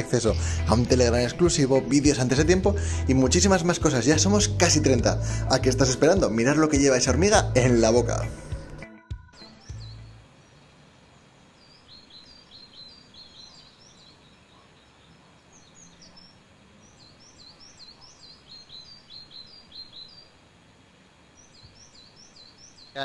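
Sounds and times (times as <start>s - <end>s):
low steady background hiss: 0.0s - 8.8s, 9.4s - 23.0s
small birds chirping: 0.0s - 23.0s.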